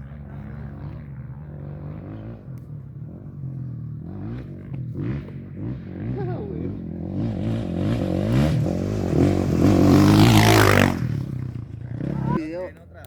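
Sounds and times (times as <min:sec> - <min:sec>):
race vehicle engine passing: 0:00.0 - 0:12.8.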